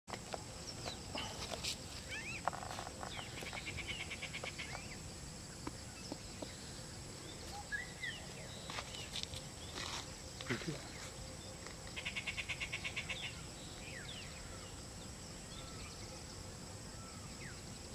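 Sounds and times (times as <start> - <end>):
birds chirping: 0.3 - 17.9.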